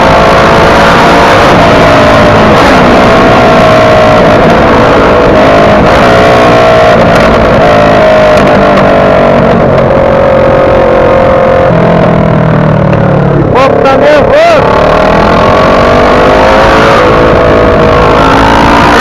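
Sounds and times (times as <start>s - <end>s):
motorcycle engine running: 0.0s - 19.0s
steady rushing noise: 0.0s - 19.0s.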